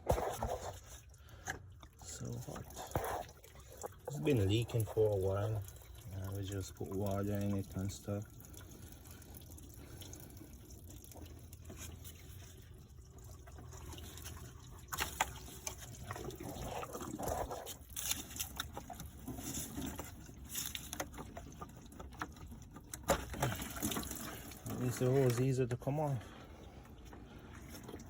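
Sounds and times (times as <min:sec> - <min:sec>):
coolant trickling from hose: 0:00.0 - 0:28.0.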